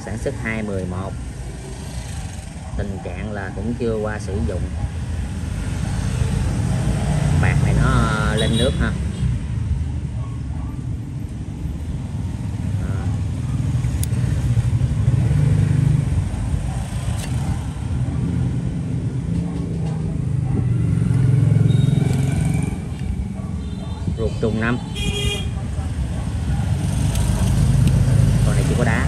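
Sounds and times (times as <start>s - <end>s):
road traffic passing by: 0.0s - 29.0s.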